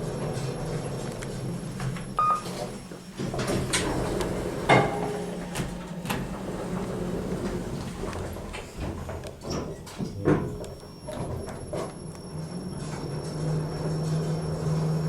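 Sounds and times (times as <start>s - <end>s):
lift doors sliding and knocking: 0.0s - 15.0s
lift humming: 0.0s - 15.0s.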